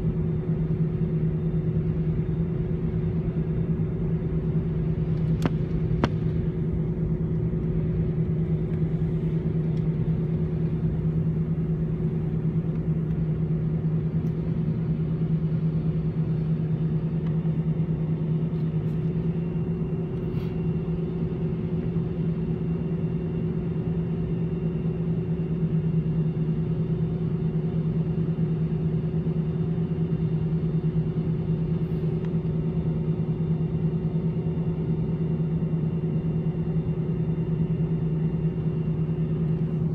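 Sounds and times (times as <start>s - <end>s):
jet engines idling from cabin: 0.0s - 39.9s.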